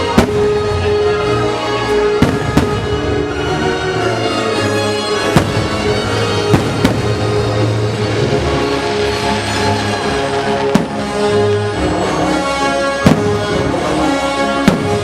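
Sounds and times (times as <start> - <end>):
fireworks bangs: 0.0 - 3.4, 5.2 - 12.2, 12.9 - 15.0
show music soundtrack: 0.0 - 15.0.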